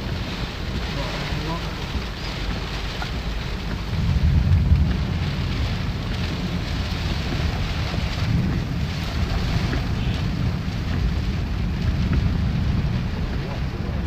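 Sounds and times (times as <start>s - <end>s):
floodwater rushing: 0.0s - 14.0s
rain: 0.0s - 14.0s
wind buffeting microphone: 0.0s - 14.0s.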